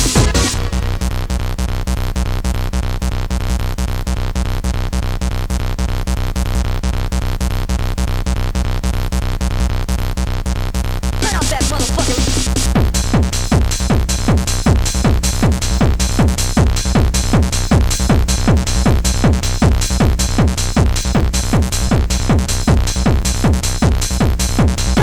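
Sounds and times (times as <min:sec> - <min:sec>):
fast techno dance music: 0:00.0 - 0:25.0.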